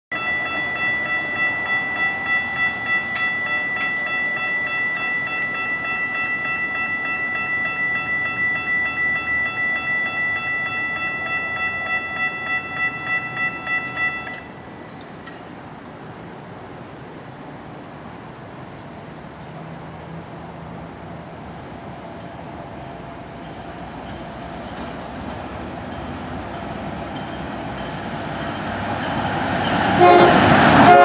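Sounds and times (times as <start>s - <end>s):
railroad crossing bell clanging: 0.1s - 31.0s.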